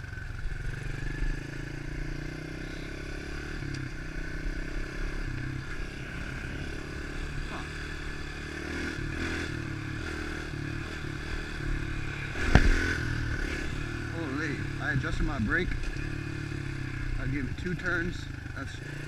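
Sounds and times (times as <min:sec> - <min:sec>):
motorbike engine running: 0:00.0 - 0:19.0.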